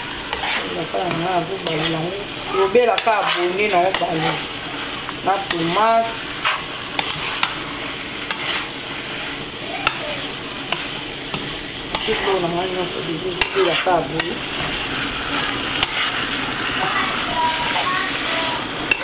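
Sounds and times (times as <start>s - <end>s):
food sizzling in a skillet: 0.0s - 19.0s.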